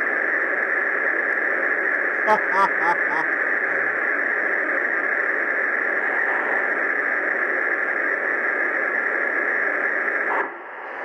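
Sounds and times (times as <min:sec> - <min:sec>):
model locomotive engine sound: 0:00.0 - 0:11.0.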